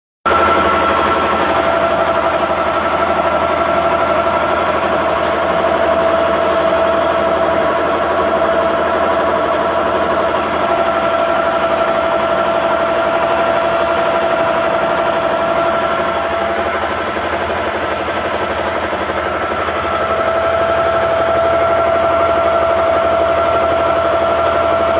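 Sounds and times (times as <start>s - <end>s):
bulldozer diesel engine running: 0.3s - 24.9s
high whine: 0.3s - 24.9s.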